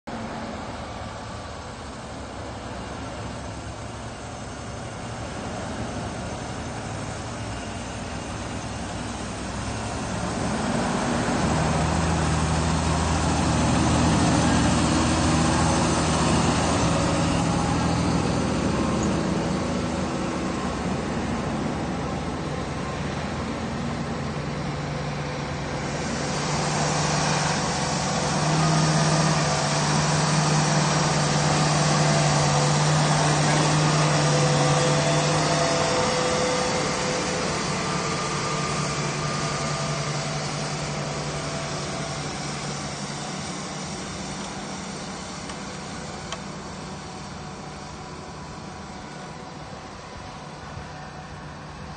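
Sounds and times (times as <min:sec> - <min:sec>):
tractor diesel engines under load: 0:00.0 - 0:51.9.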